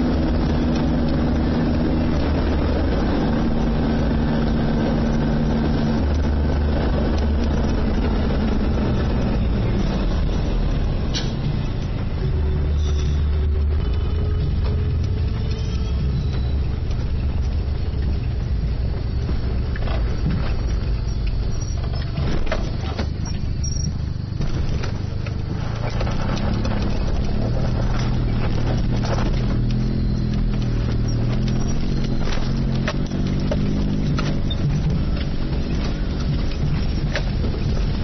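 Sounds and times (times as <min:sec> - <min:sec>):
knocks and rattles: 0:00.0 - 0:38.0
small engine droning: 0:00.0 - 0:38.0.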